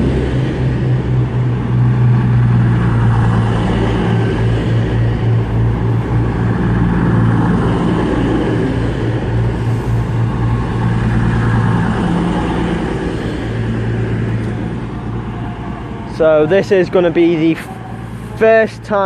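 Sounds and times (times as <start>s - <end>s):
diesel train engine humming: 0.0s - 19.0s.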